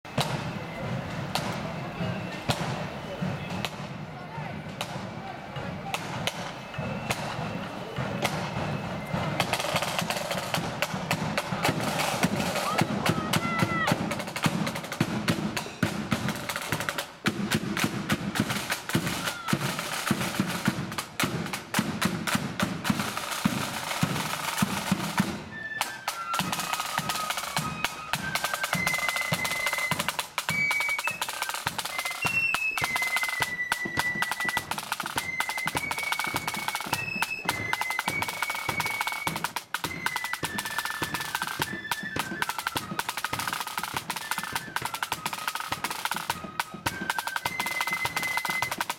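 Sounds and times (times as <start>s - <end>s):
flutes playing a tune: 0.1s - 48.9s
snare drums rolling: 0.1s - 48.9s.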